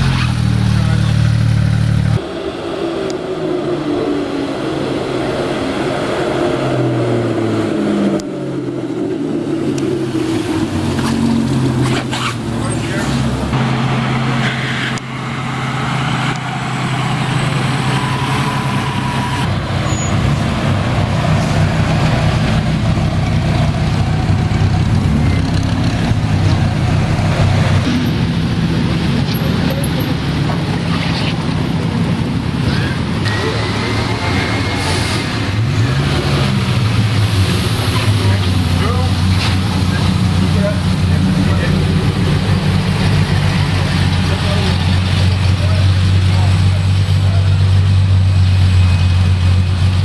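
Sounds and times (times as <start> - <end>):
car engines running: 0.0 - 50.0.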